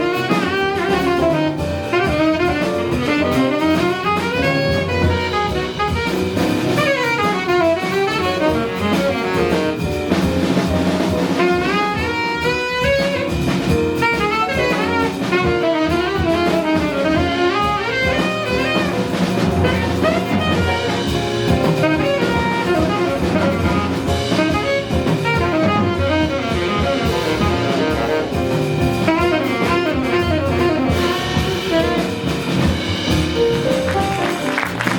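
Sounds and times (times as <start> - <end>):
bass: 0.0 - 34.9
drums: 0.0 - 34.9
piano: 0.0 - 34.9
saxophone fast runs: 0.0 - 34.9.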